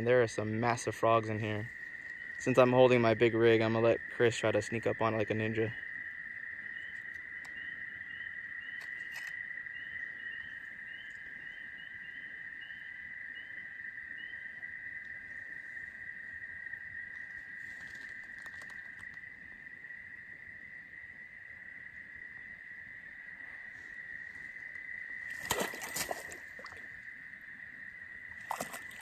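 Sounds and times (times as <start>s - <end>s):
crickets trilling: 0.0s - 29.0s
high insect chirp: 0.0s - 29.0s.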